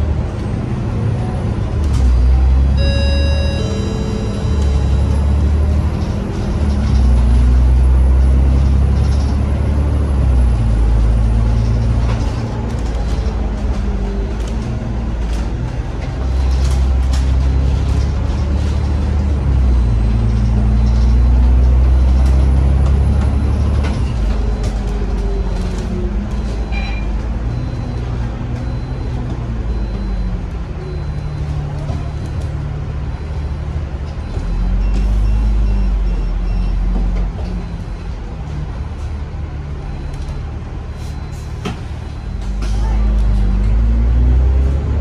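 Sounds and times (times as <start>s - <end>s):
bus diesel engine pulling: 0.0s - 45.0s.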